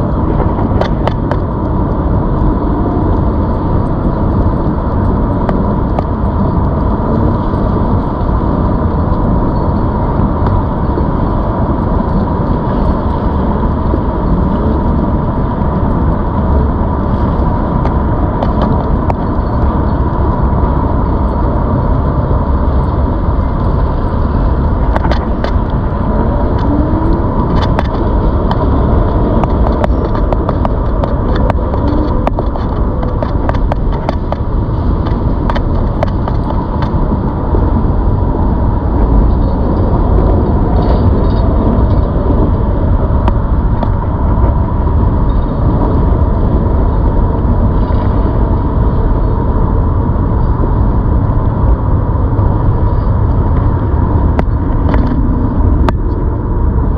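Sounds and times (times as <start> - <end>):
sharp clicks and rattles: 0.0 - 48.1, 53.1 - 56.8
wind and tyre noise: 0.0 - 56.9.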